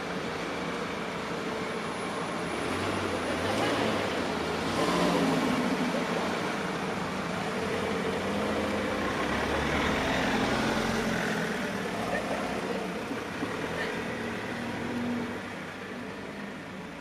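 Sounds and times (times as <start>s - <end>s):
vehicle engines idling: 0.0s - 17.0s.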